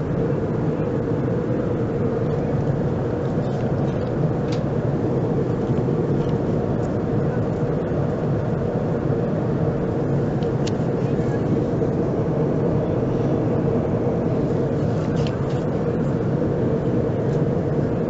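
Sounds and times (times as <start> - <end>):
airplane cabin drone: 0.0 - 18.0.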